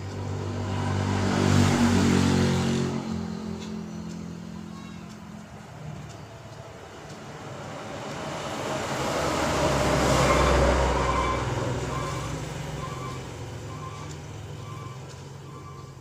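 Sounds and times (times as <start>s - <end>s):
motor vehicle passing by: 0.0s - 16.0s.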